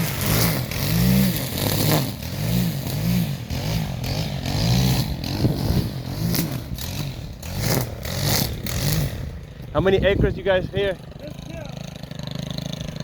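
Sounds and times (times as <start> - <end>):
small gasoline engine pulsing: 0.0 - 13.0.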